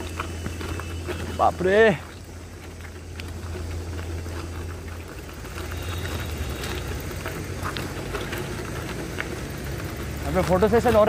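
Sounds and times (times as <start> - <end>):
motorcycle engine running: 0.0 - 11.0
small clicks and rattles: 0.0 - 11.0.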